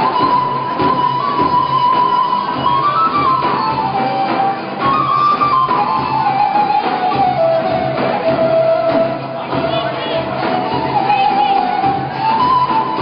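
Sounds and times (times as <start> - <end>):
folk band playing: 0.0 - 13.0.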